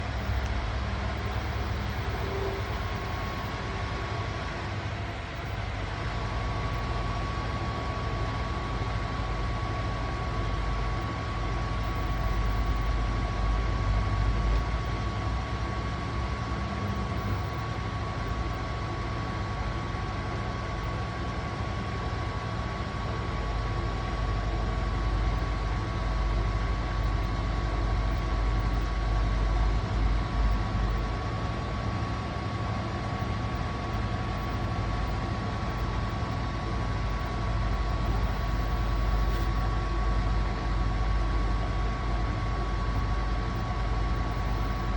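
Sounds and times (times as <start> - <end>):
steady high whine: 0.0 - 44.9
washing machine spin rumble: 0.0 - 44.9.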